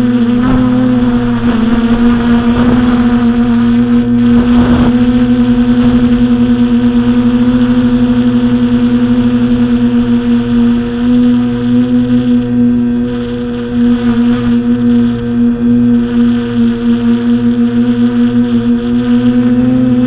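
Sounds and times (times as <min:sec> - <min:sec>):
quadcopter propellers whirring: 0:00.0 - 0:20.0.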